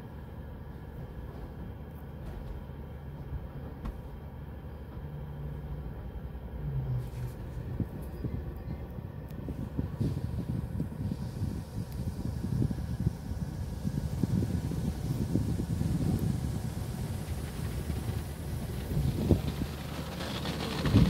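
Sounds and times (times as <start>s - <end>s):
car wash low rumble: 0.0s - 21.0s.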